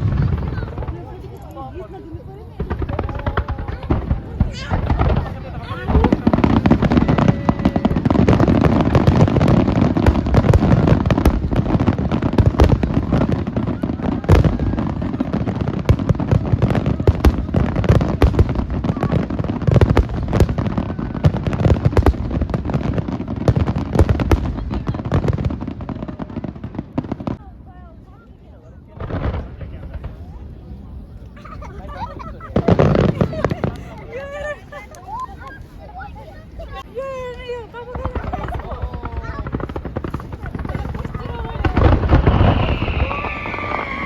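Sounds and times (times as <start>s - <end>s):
fireworks bursting and crackling: 0.0s - 27.4s, 28.9s - 44.0s.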